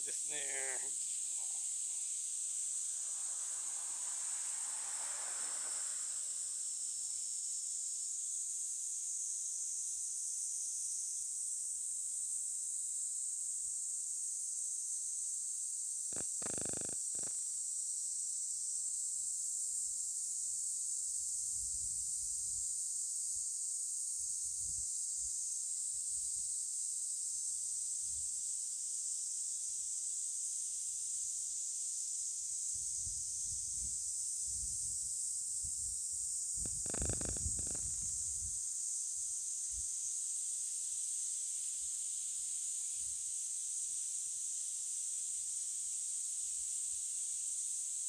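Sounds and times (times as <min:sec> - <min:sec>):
rustle: 0:00.0 - 0:11.2, 0:16.1 - 0:48.0
high-pitched insect chorus: 0:00.0 - 0:48.0.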